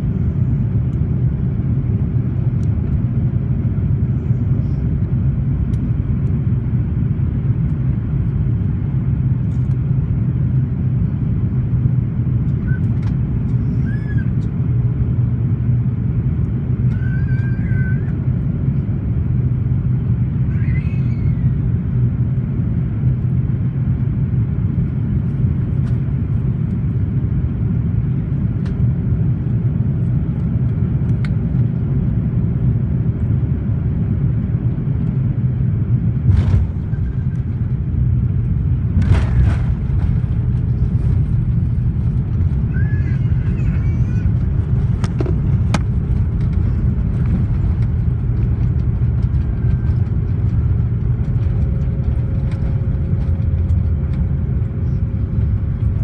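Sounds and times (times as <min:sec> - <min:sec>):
engine and airflow rumble: 0:00.0 - 0:56.0.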